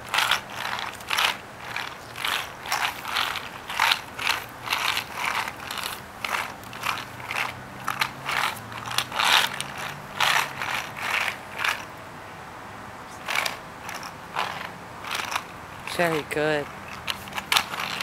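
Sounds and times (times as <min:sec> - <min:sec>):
roller skate wheels rattling on asphalt: 0:00.0 - 0:11.9, 0:13.2 - 0:18.0.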